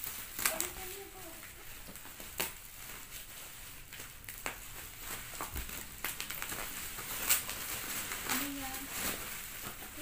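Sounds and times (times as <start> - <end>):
plastic and bubble wrap crinkling: 0.0 - 10.0.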